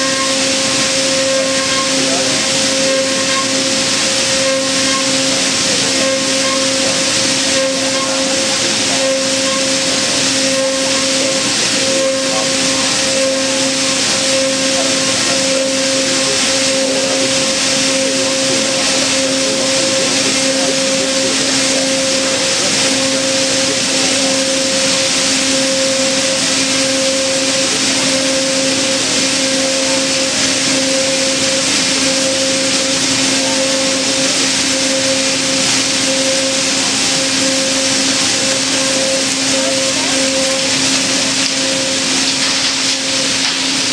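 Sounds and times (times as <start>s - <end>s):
router spindle running: 0.0s - 43.9s.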